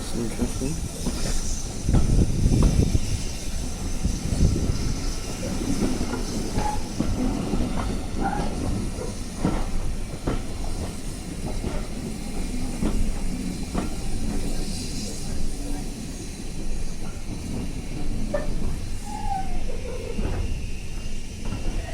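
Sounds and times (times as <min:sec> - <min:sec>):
train rumbling: 0:00.0 - 0:21.9.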